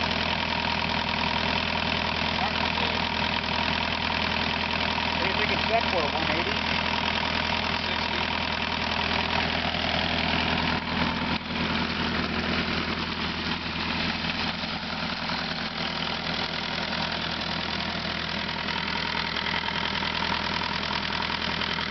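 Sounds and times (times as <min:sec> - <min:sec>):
diesel engine idling: 0:00.0 - 0:21.9.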